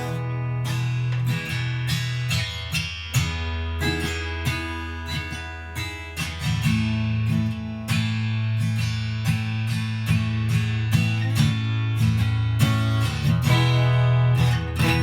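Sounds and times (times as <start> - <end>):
acoustic guitar strumming and picking: 0.0 - 15.0.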